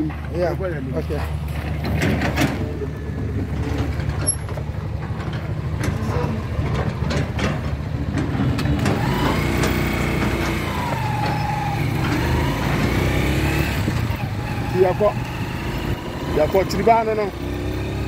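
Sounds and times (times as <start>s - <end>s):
truck engine idling: 0.0s - 17.3s.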